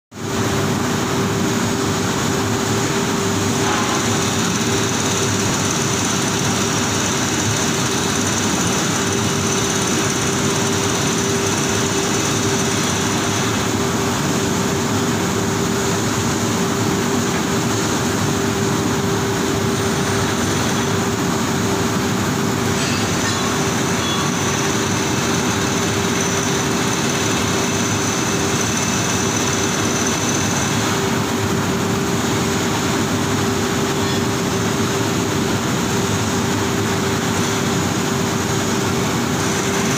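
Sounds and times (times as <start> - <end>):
constant hum tone: 0.3 - 39.9.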